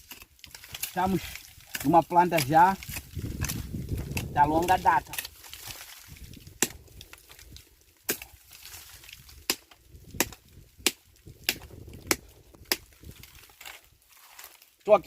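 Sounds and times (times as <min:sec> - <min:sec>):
chopping into tree trunk: 0:00.0 - 0:07.4, 0:08.0 - 0:13.8.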